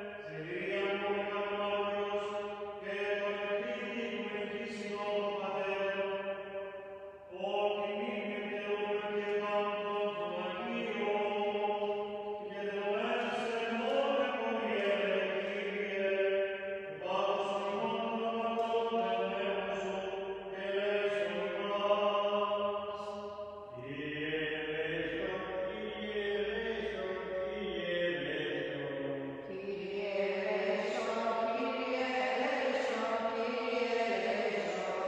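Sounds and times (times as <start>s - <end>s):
lower voice singing: 0.0s - 6.0s, 7.3s - 16.3s, 16.9s - 23.1s, 23.7s - 35.0s
man chanting unaccompanied: 0.0s - 6.3s, 7.3s - 29.5s.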